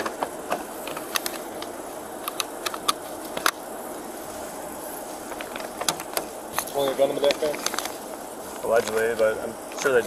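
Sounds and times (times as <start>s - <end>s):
vehicles idling: 0.0s - 10.0s.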